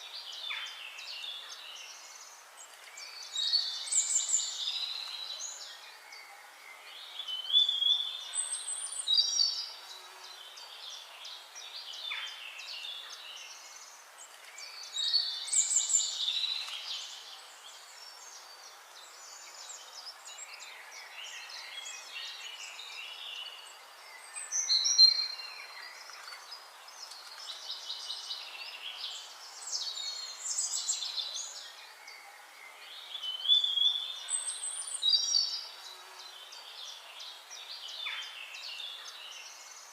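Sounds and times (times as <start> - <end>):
faint steady hiss: 0.0 - 39.9
small songbirds singing: 0.0 - 39.9.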